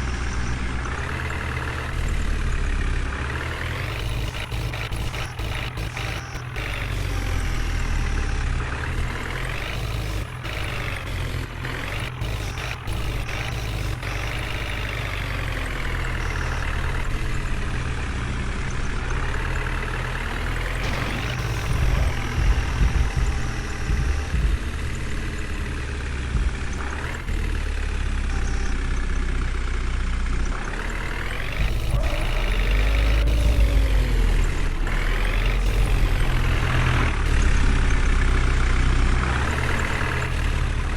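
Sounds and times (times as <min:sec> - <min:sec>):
heavy diesel engine revving: 0:00.0 - 0:40.9.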